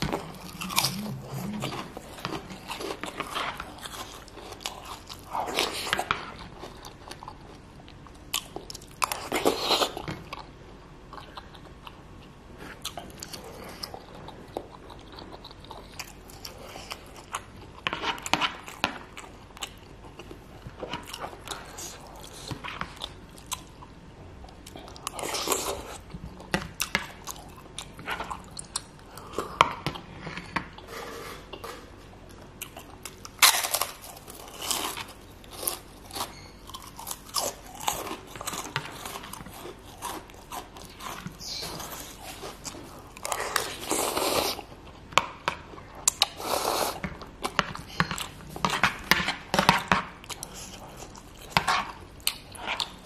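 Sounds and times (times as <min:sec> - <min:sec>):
person chewing noodles: 0:00.0 - 0:53.0.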